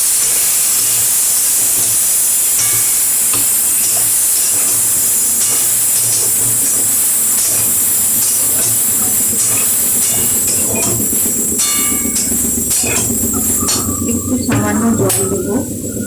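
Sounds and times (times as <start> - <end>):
vegetables sizzling in oil: 0.0 - 15.8.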